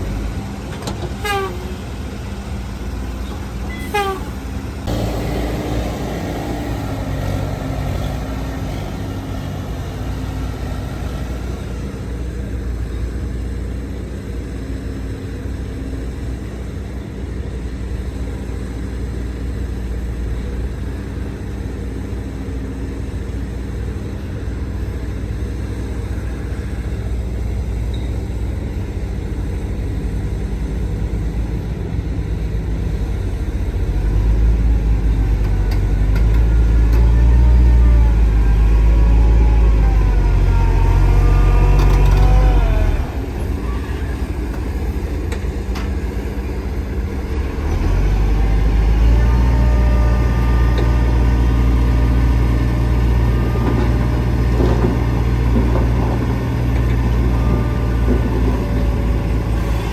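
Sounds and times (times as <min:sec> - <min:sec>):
heavy machinery engine rumble: 0:00.0 - 0:59.9.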